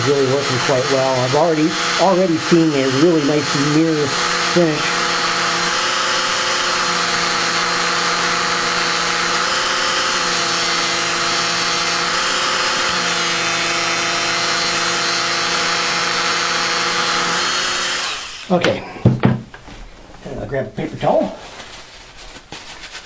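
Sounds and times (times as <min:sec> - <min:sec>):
rotary tool motor hum: 0:00.1 - 0:18.6.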